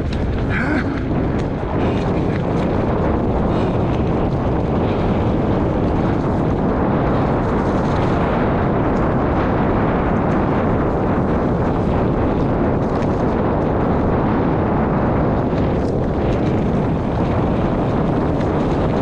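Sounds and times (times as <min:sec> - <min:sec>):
rumble over rough ground: 0:00.0 - 0:19.0
wind buffeting microphone: 0:00.0 - 0:19.0.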